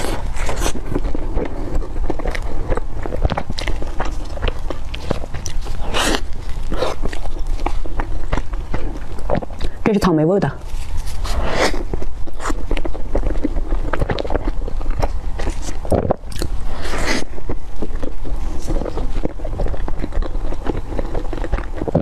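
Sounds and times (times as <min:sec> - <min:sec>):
chewing soft bread: 0:00.0 - 0:22.0.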